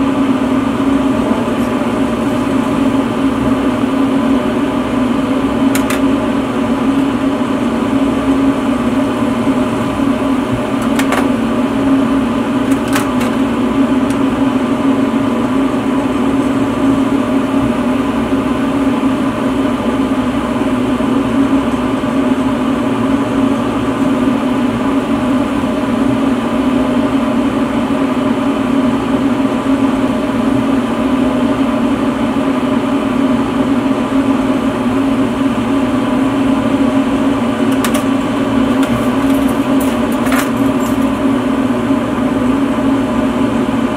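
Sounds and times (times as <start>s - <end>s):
torch burning drone: 0.0s - 43.9s.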